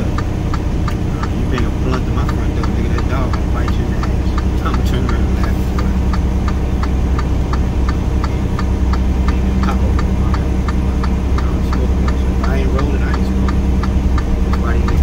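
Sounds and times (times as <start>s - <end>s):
light even ticking: 0.0s - 15.0s
truck engine and road drone: 0.0s - 15.0s.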